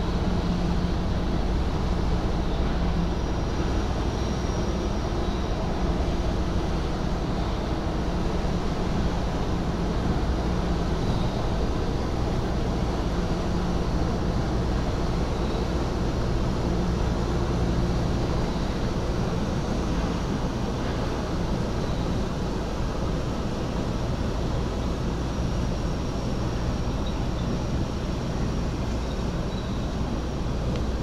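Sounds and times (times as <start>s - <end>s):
ferry diesel engines droning: 0.0s - 31.0s
water churned by propellers: 0.0s - 31.0s.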